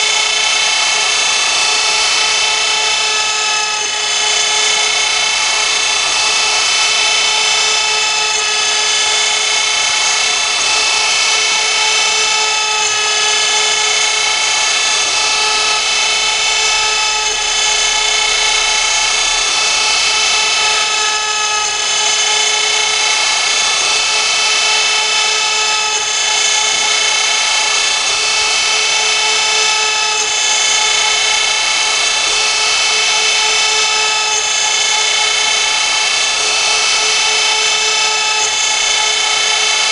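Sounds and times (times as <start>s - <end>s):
router spindle high whine: 0.0s - 39.9s.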